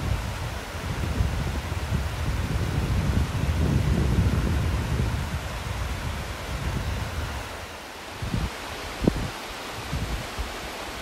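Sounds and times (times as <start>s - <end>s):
waterfall rushing: 0.0s - 11.0s
wind buffeting microphone: 0.0s - 11.0s.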